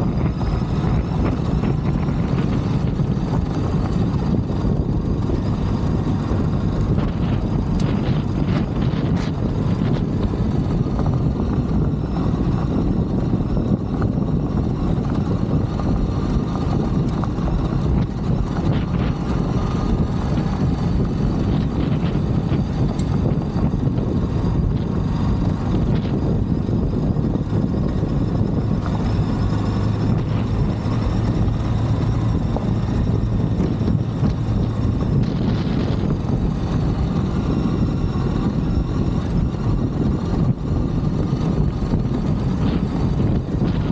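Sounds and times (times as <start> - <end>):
motorcycle engine running: 0.0 - 43.9
wind rush on microphone: 0.0 - 43.9.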